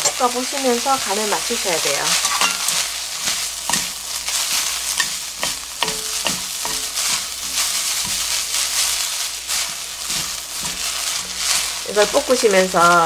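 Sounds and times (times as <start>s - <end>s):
stems sizzling in hot oil: 0.0s - 13.0s
utensils tapping and scraping pan: 0.0s - 13.0s.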